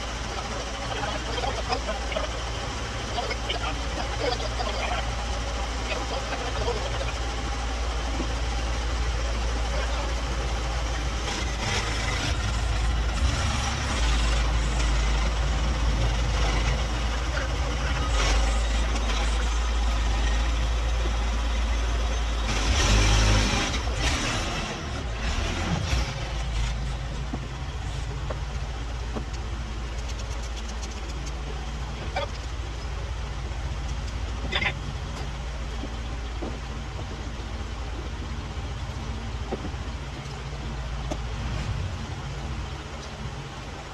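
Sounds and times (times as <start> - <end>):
diesel engine rumbling: 0.0 - 43.9.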